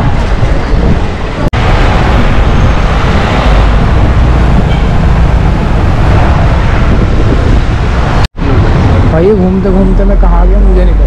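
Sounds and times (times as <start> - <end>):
cars and motorcycles passing: 0.0 - 11.0
wind rumble on microphone: 0.0 - 11.0.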